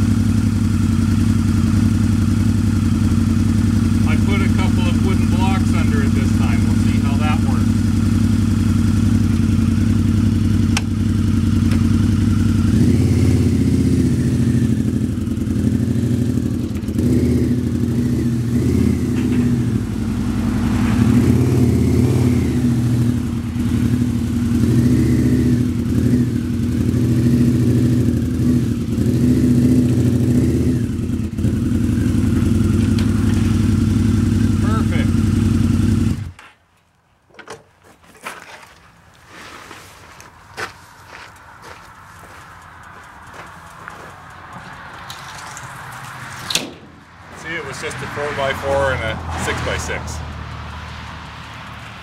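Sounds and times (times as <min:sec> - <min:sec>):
motorcycle engine revving: 0:00.0 - 0:36.4, 0:41.3 - 0:52.0.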